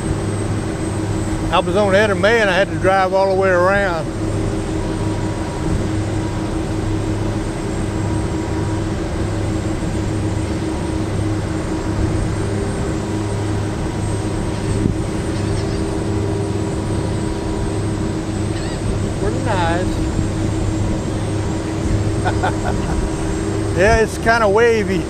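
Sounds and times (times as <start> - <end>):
ferry engine drone: 0.0 - 25.0
wind and water rush: 0.0 - 25.0.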